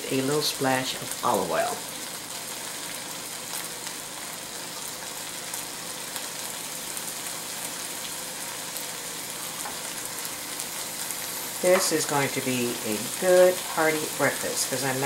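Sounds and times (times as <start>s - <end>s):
butter and oil sizzling in pan: 0.0s - 15.0s
onion frying: 0.0s - 15.0s.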